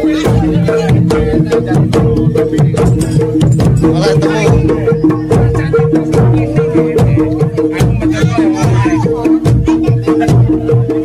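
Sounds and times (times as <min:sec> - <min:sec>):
hand drums beaten quickly: 0:00.0 - 0:11.0.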